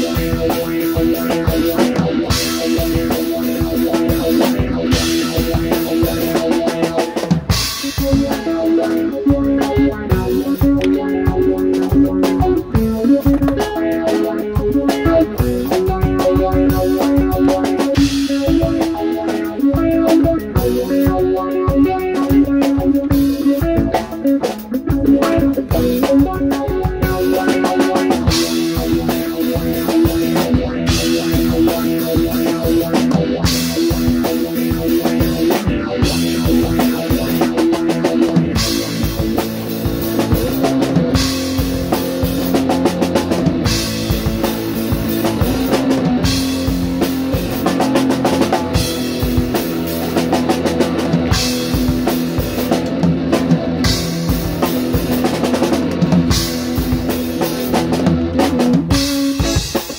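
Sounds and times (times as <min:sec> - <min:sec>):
drum kit: 0:00.0 - 0:59.9
electric guitar: 0:00.0 - 0:59.9
rock music: 0:00.0 - 0:59.9.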